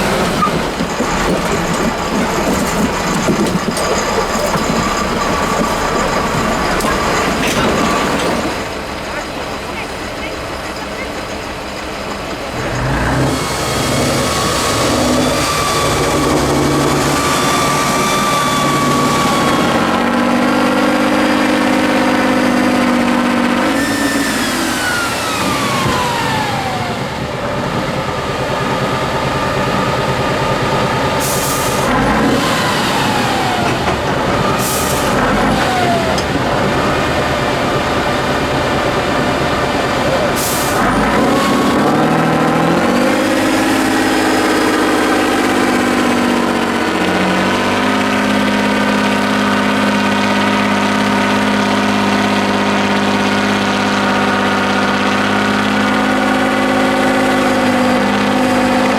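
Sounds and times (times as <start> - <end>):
truck engine revving: 0.0 - 9.9, 11.2 - 58.9.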